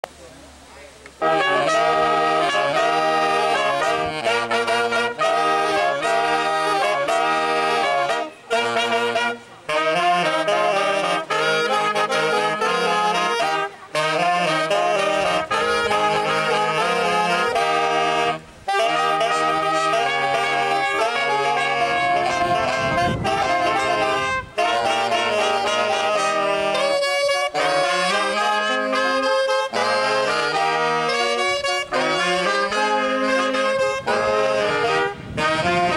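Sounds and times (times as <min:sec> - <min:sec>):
band with bass line: 0:01.0 - 0:35.9
saxophone melody: 0:01.1 - 0:35.9.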